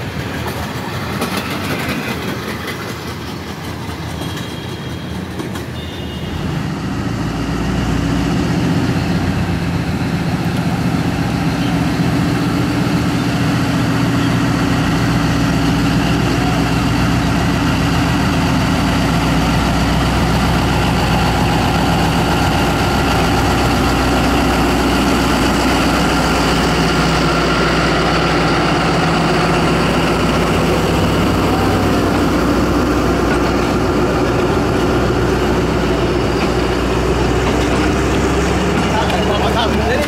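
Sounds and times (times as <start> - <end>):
diesel locomotive engine running: 0.0 - 40.0.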